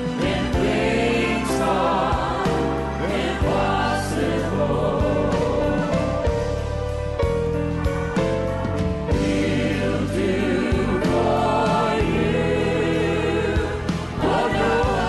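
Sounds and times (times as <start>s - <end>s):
choir singing: 0.0s - 6.7s, 9.1s - 15.0s
instrumental accompaniment: 0.0s - 15.0s.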